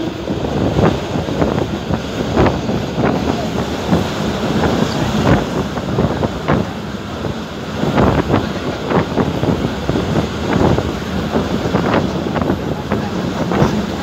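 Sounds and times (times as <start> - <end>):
train rumbling: 0.0 - 14.0
wind noise: 0.0 - 14.0.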